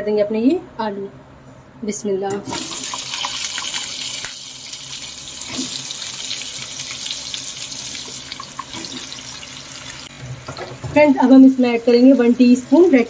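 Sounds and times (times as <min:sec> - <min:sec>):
potatoes sizzling in hot oil: 0:02.4 - 0:13.0.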